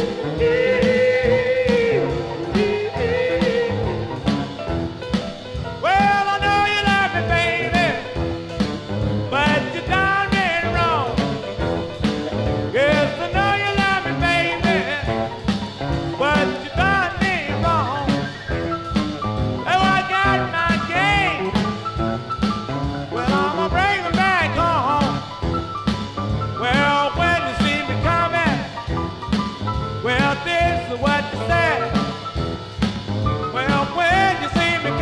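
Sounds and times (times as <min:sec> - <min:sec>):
rhythm and blues record: 0:00.0 - 0:35.0.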